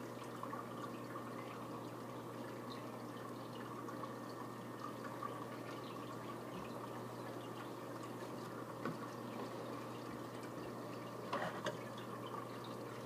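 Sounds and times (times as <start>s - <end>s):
aquarium water trickling and bubbling: 0.0s - 13.0s
low pump hum: 0.0s - 13.0s
water drips: 0.0s - 13.0s.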